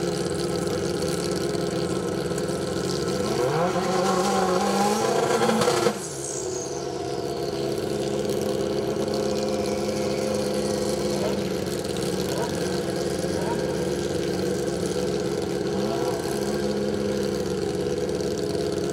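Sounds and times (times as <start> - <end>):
motorcycle engine revving: 0.0 - 18.9
motorcycle engines idling: 0.0 - 18.9.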